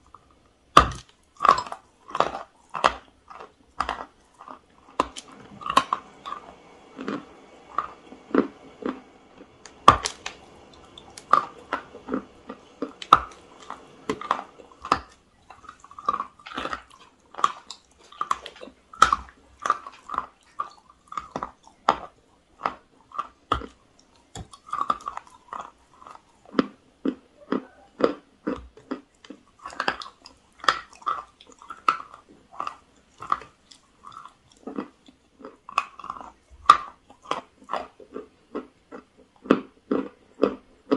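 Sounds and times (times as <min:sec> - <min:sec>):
crunchy biting and chewing: 0:00.0 - 0:40.9.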